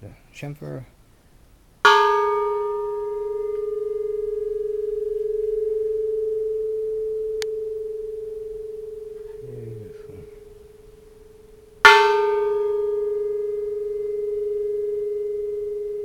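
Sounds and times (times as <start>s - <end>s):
temple bell ringing: 1.8s - 16.0s.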